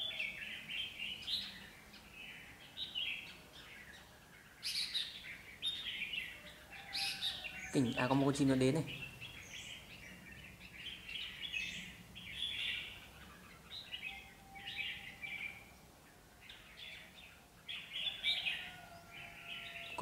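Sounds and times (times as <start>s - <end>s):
bulbuls singing chirpy phrases: 0.0s - 20.0s.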